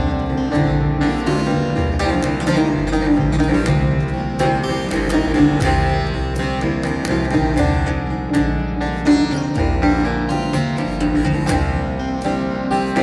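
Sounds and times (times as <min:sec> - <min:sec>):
long-necked lute picked in quick runs: 0:00.0 - 0:13.0.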